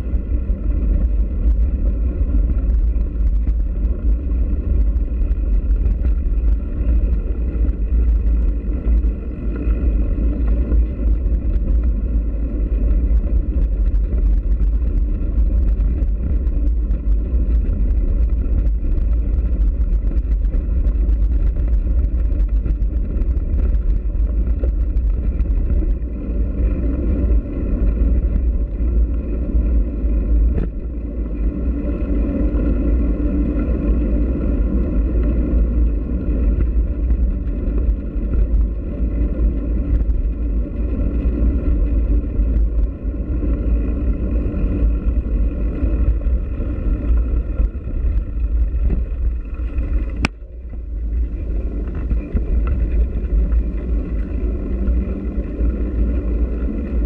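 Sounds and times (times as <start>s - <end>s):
faint steady whine: 0.0s - 57.0s
wind buffeting microphone: 0.0s - 57.0s.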